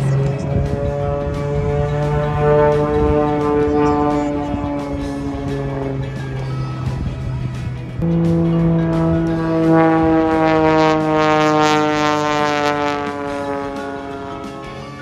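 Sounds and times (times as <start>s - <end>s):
propeller plane engine buzz: 0.0s - 15.0s.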